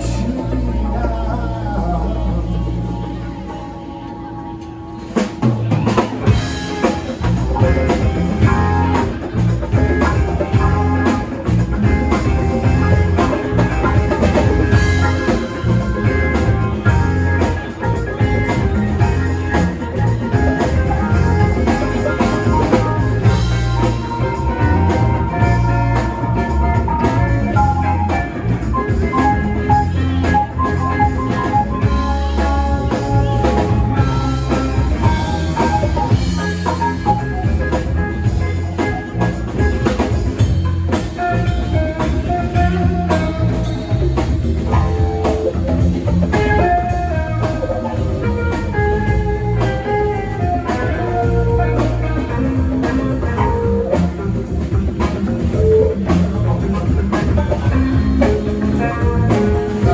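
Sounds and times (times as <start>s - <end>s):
drum kit: 0.0s - 59.9s
guitar: 0.0s - 59.9s
rock band playing: 0.0s - 59.9s.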